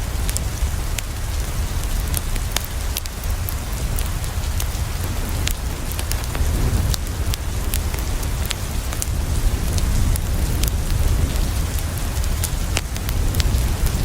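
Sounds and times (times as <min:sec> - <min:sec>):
rain on a window: 0:00.0 - 0:14.0
wood fire crackling: 0:00.0 - 0:14.0.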